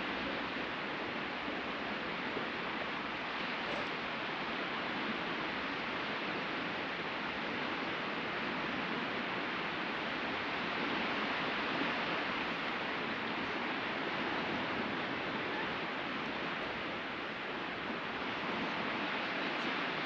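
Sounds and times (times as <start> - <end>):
ocean surf washing ashore: 0.0 - 20.0.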